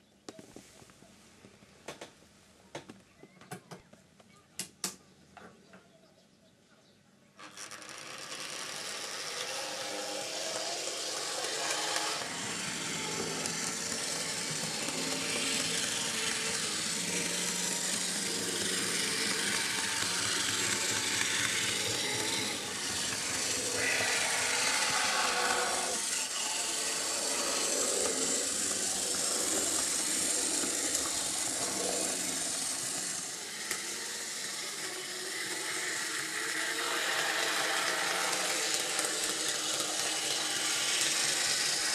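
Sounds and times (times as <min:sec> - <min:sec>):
model tram motor running: 0:07.4 - 0:41.9.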